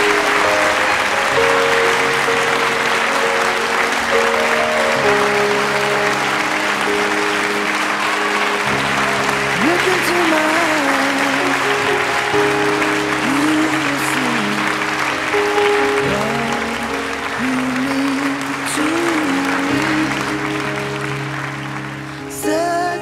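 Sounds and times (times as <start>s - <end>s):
background music with held notes: 0.0s - 23.0s
guests applauding: 0.0s - 23.0s.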